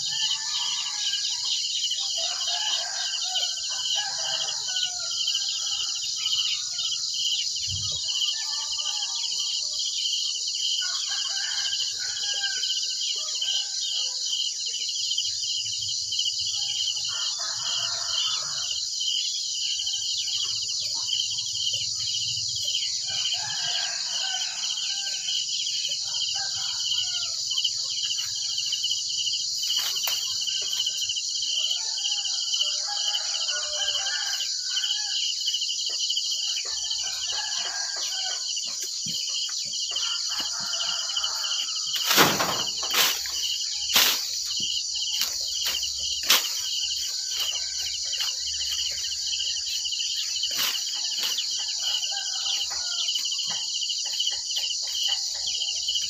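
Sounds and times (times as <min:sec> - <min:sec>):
roosters crowing: 0:00.0 - 0:09.9, 0:10.8 - 0:14.3, 0:16.5 - 0:19.0, 0:22.9 - 0:56.0
crickets chirring: 0:00.0 - 0:56.0.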